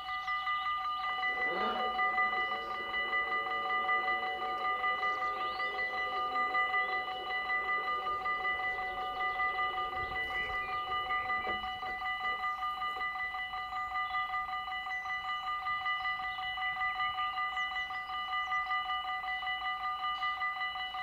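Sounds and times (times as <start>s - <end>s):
electronic warning bells ringing: 0.0s - 21.0s.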